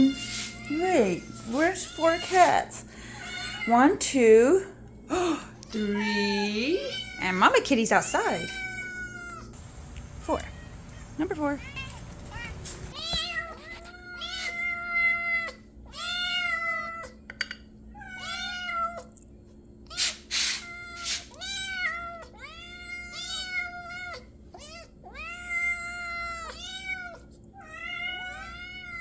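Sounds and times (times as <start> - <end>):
cats meowing: 0.0 - 4.0, 5.6 - 7.5, 8.1 - 17.3, 18.0 - 19.2, 19.9 - 29.0.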